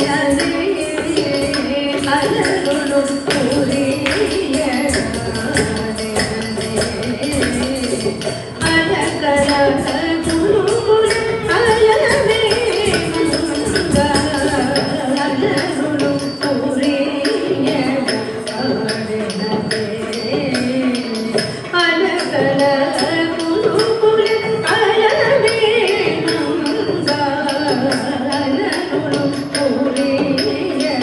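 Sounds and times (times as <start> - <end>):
rhythmic percussion strokes: 0.0 - 31.0.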